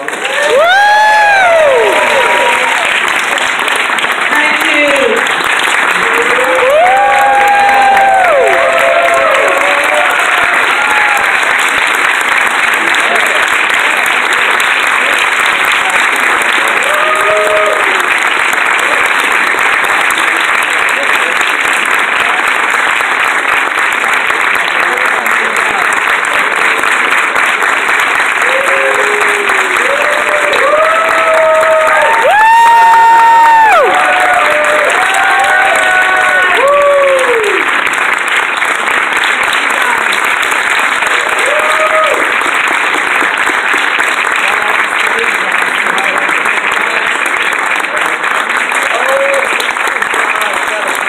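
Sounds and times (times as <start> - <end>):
audience applauding: 0.0 - 51.0.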